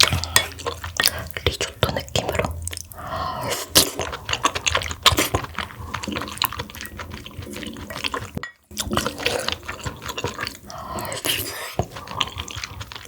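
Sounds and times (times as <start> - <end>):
wet eating sounds: 0.0 - 13.0.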